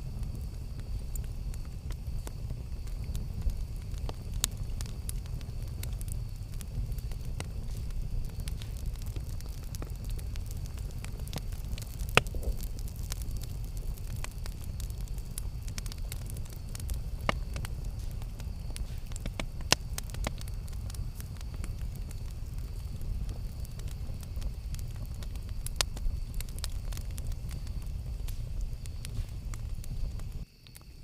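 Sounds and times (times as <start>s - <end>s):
campfire crackling: 0.0s - 31.0s
sharp fire pops: 0.0s - 31.0s.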